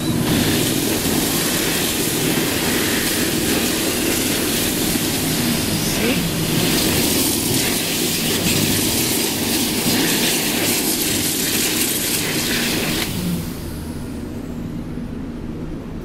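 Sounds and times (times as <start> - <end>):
hand dryer blowing: 0.0 - 14.1
fan winding down: 0.0 - 16.0.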